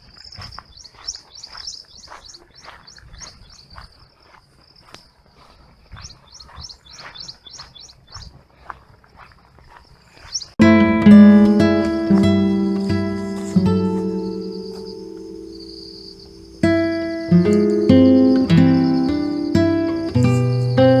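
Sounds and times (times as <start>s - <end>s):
small birds chirping: 0.2s - 4.0s, 5.9s - 8.7s, 9.8s - 21.0s.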